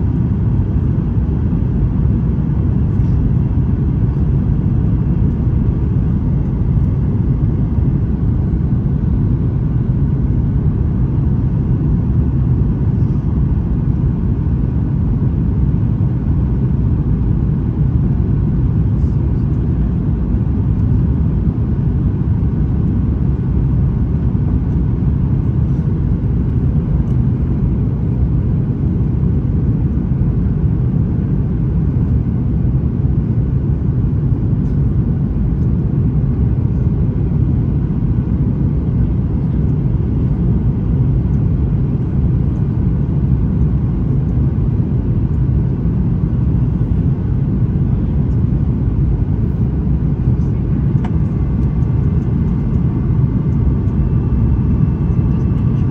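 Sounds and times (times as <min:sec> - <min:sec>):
airliner cabin engine roar: 0:00.0 - 0:55.9.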